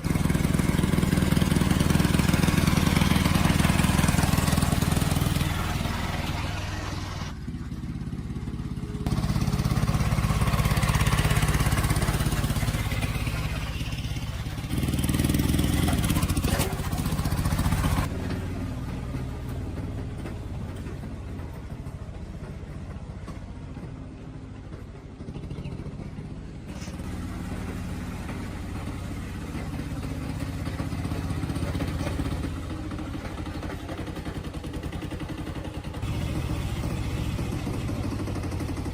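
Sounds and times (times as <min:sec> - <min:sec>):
motor engine running: 0:00.0 - 0:38.9.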